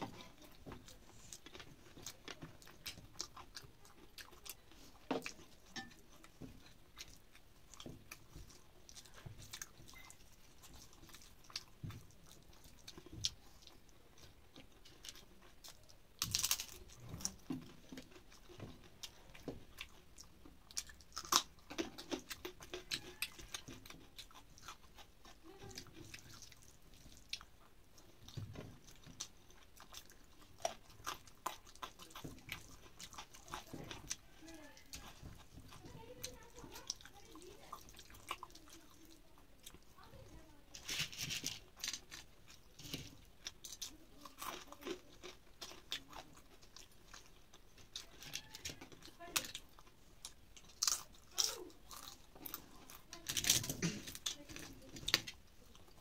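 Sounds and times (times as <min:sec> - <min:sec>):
soft chewing: 0:00.0 - 0:56.0
crisp crunching: 0:07.7 - 0:56.0.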